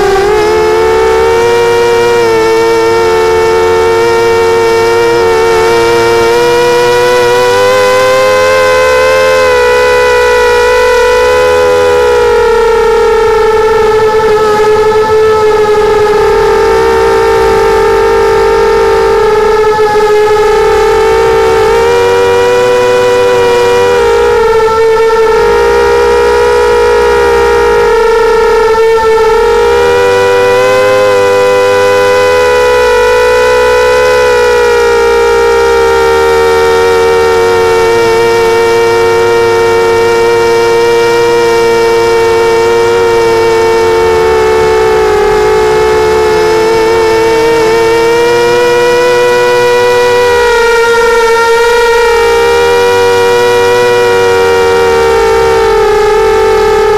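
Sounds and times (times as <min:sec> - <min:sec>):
drone motors whining: 0:00.0 - 0:56.9.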